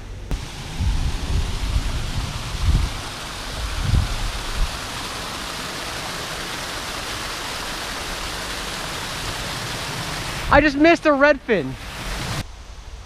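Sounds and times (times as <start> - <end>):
water rushing over spillway: 0.3 - 12.4.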